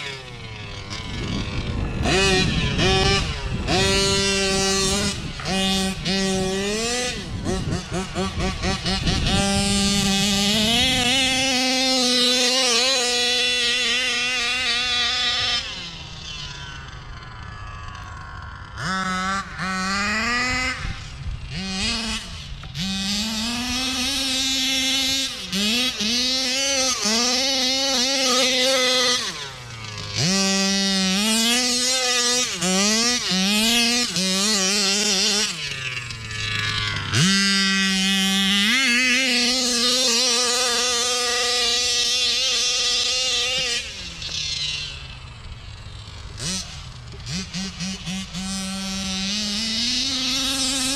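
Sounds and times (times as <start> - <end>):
small two-stroke engine revving: 0.0 - 50.9.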